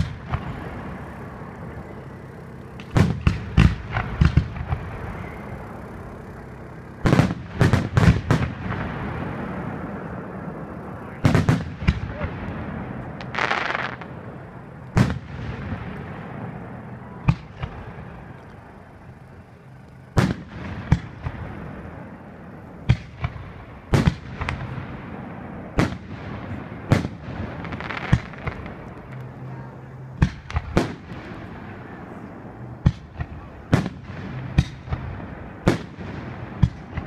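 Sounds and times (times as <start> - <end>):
fireworks booming: 0.0 - 37.0
hissing of rising fireworks: 0.0 - 37.0.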